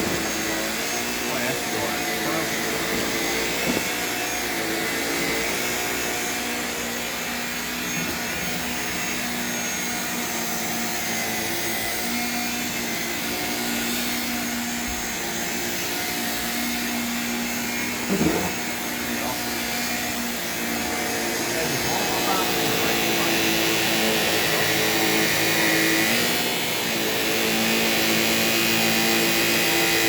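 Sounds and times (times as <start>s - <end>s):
vacuum cleaner running over carpet: 0.0s - 30.0s.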